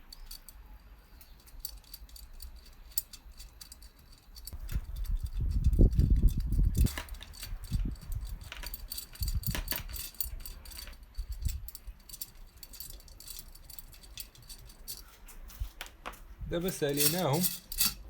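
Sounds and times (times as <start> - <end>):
wire spokes clinking: 0.0 - 18.0.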